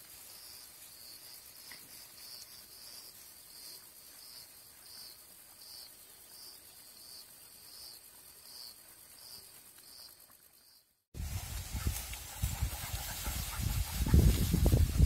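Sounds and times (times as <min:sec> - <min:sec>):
crickets chirping: 0:00.0 - 0:14.8.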